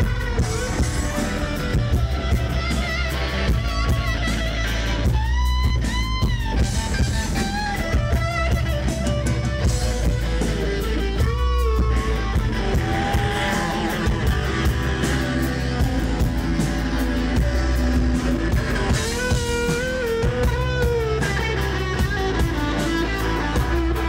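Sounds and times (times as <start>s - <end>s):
electric guitar with bent notes: 0.0s - 24.0s
pounding drum kit: 0.0s - 24.0s.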